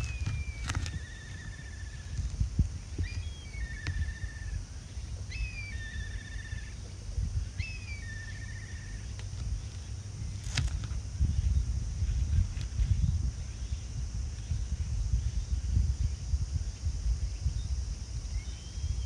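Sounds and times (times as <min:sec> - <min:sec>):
songbird singing: 0:00.0 - 0:19.0
wind rumble on microphone: 0:00.0 - 0:19.0.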